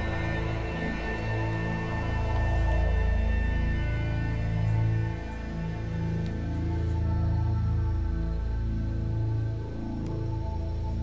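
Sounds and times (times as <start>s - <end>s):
music with sustained low notes: 0.0s - 11.0s.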